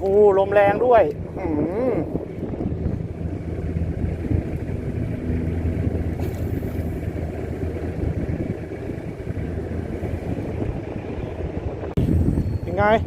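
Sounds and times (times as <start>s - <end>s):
boat engine humming: 0.0s - 13.0s
wind on microphone: 0.0s - 13.0s.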